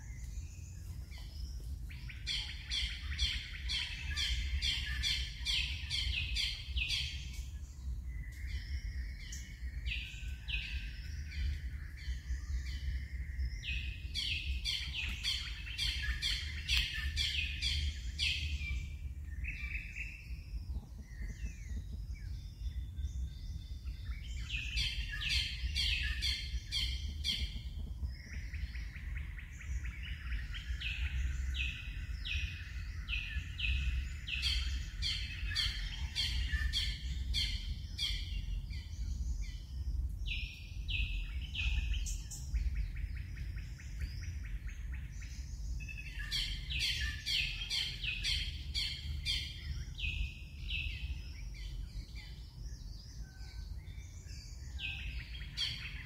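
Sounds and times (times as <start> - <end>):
birds calling: 0.0 - 56.0
low steady rumble: 0.0 - 56.0.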